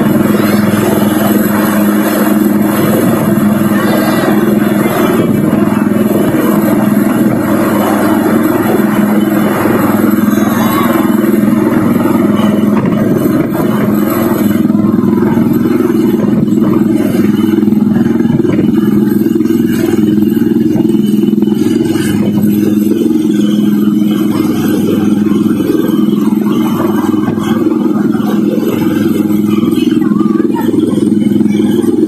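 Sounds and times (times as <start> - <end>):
helicopter hovering: 0.0 - 32.0.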